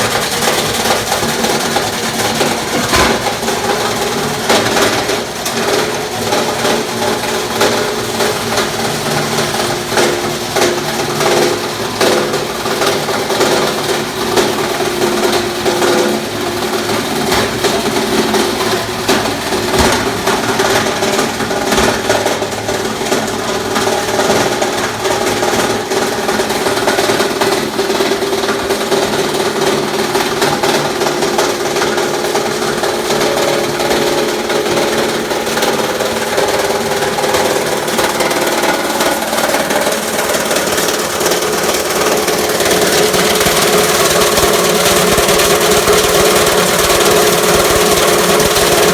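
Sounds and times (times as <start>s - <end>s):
machine hum: 0.0s - 48.9s.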